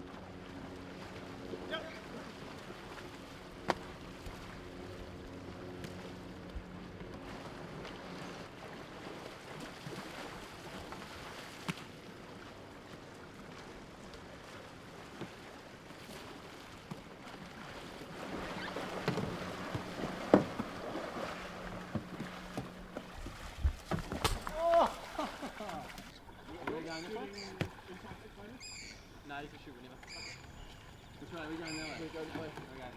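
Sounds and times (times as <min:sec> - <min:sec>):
kayaks splashing through water: 0:00.0 - 0:32.9
knocks of kayaks and paddles: 0:00.0 - 0:32.9.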